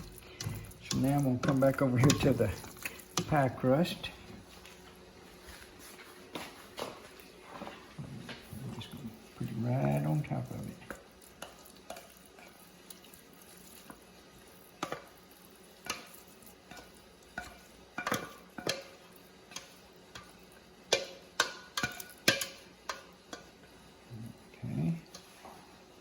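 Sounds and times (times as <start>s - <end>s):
spoon scraping a skillet: 0.0s - 6.1s, 9.7s - 25.7s.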